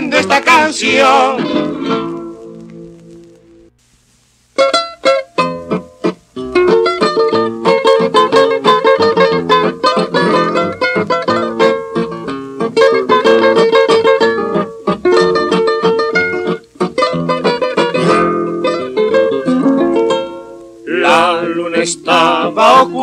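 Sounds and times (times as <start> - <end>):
acoustic guitars playing waltz: 0.0 - 3.7, 4.6 - 23.0.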